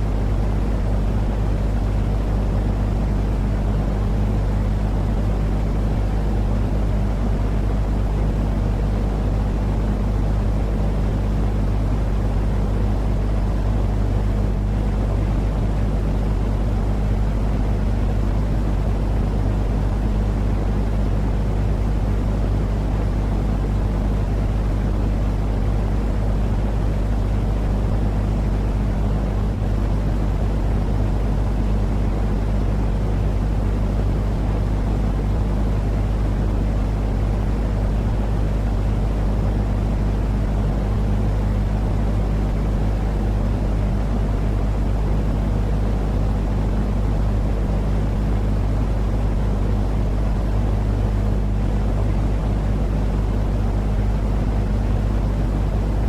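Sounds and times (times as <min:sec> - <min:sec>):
deep rumble with low hum: 0:00.0 - 0:56.0.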